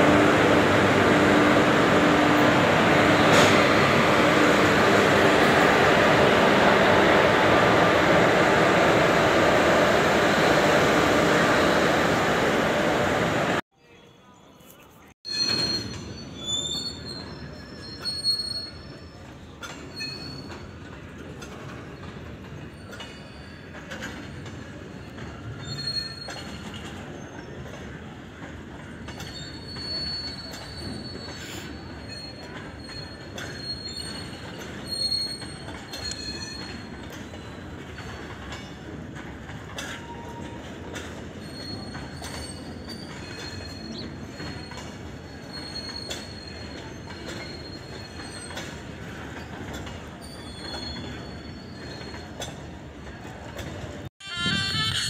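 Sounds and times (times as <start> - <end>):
train wheels rolling on rails: 0.0 - 13.6, 15.3 - 55.0
wheels squealing: 0.0 - 13.6, 15.3 - 55.0.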